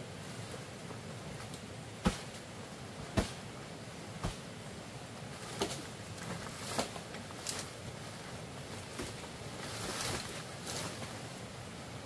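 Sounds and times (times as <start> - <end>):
branches and thatch rustling: 0.2 - 11.9.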